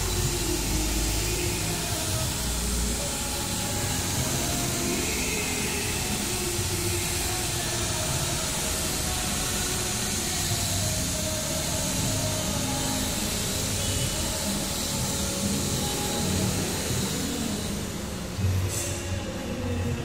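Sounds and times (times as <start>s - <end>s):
car polisher motor whir: 0.0s - 20.0s.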